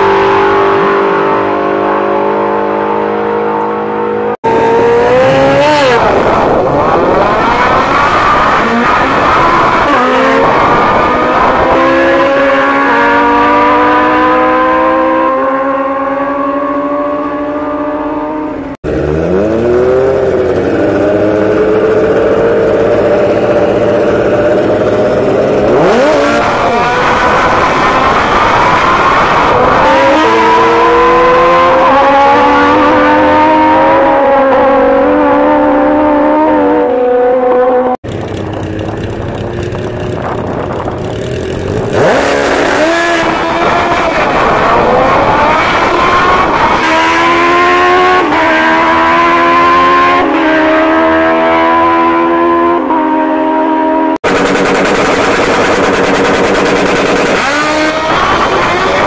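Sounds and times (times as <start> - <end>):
motorcycles accelerating: 0.0 - 59.0.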